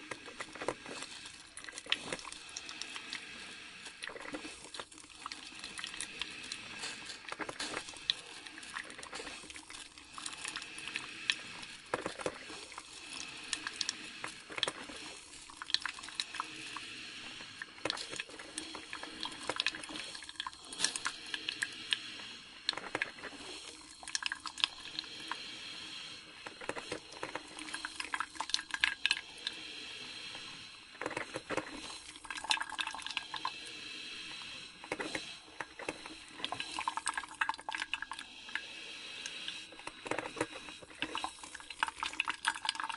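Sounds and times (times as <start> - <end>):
coffee maker hissing: 0.0 - 42.9
gurgles and sputters: 0.0 - 42.9.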